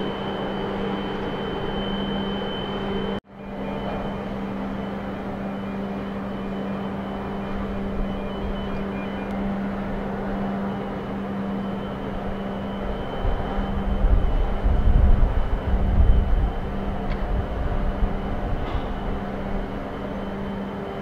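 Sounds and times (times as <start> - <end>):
heavy machinery droning: 0.0 - 21.0.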